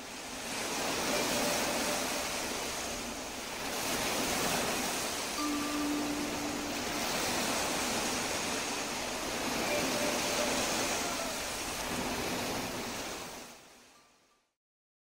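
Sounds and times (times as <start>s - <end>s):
ocean surf washing in: 0.0s - 13.9s
faint steady tone: 0.8s - 12.8s.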